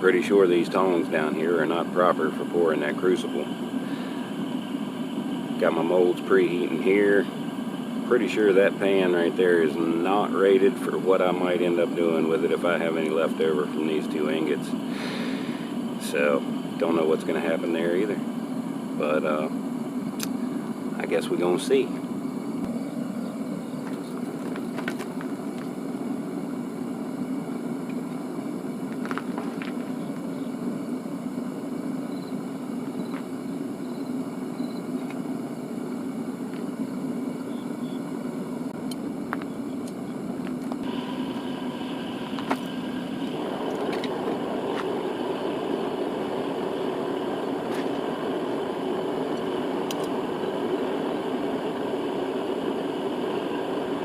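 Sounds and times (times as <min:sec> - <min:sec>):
furnace burner rushing hum: 0:00.0 - 0:54.0.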